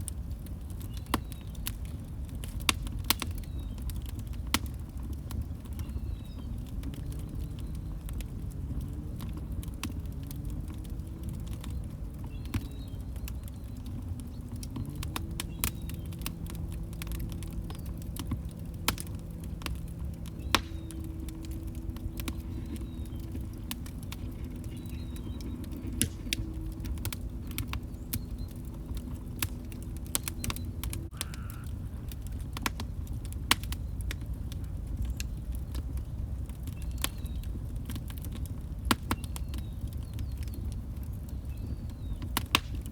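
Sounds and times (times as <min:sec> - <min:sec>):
log fire crackling: 0:00.0 - 0:42.9.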